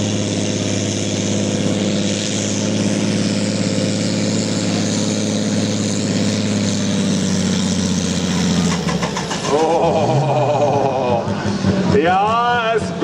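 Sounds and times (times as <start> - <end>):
diesel engine at high revs: 0.0 - 13.0.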